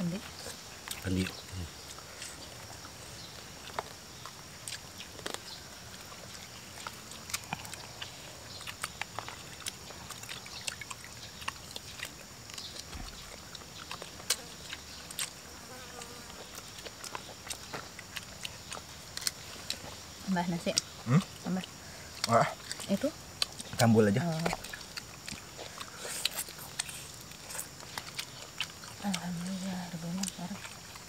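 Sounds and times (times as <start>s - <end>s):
insects droning: 0.0s - 31.0s
chewing and lip smacks: 0.2s - 31.0s.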